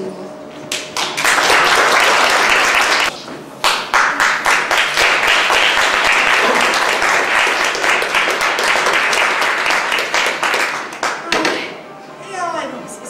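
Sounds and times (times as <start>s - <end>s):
audience applauding: 0.7s - 11.3s.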